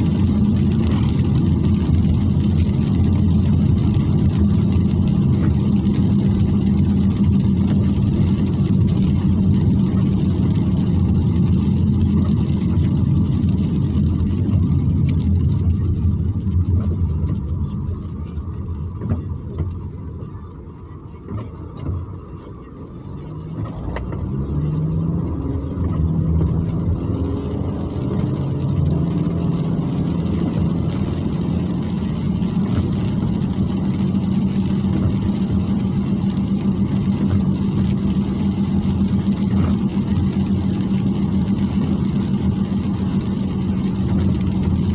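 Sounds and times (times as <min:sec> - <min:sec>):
car engine rumble: 0:00.0 - 0:44.9.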